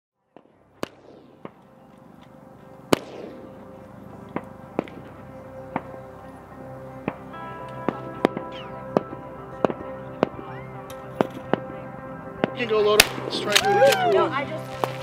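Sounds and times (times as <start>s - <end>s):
background music: 0.2s - 15.0s.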